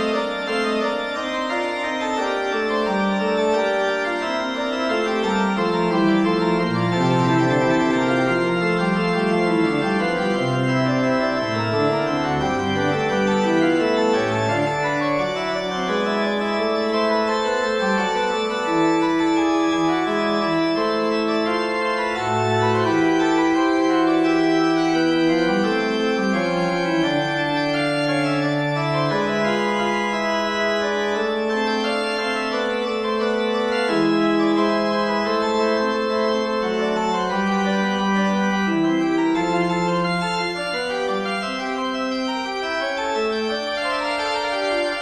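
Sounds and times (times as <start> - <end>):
slow organ-like keyboard chords: 0.0 - 45.0.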